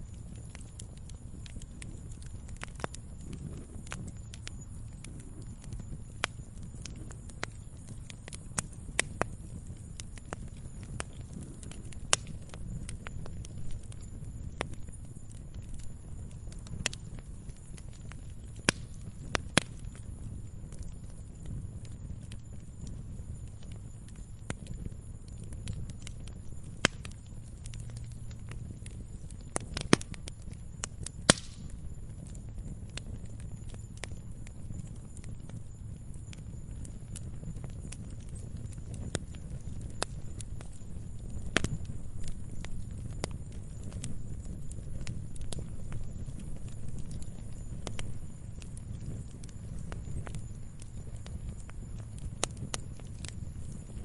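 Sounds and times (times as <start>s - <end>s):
log fire crackling and popping: 0.0s - 54.0s
low rumble of flames: 0.0s - 54.0s.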